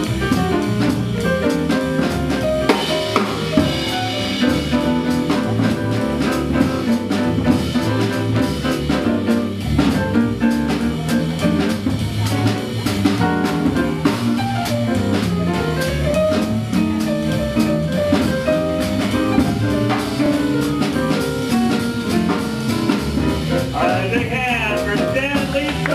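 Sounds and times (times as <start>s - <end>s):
steady drum beat: 0.0s - 25.9s
swing jazz band playing: 0.0s - 25.9s.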